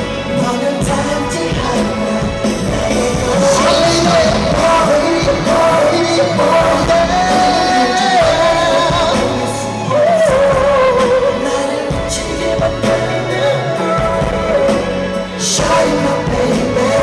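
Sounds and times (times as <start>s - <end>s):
full band playing pop song: 0.0s - 17.0s.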